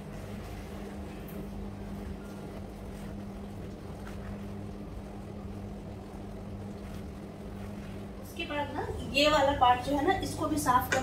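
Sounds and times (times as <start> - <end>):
dishwasher motor hum: 0.0 - 11.0.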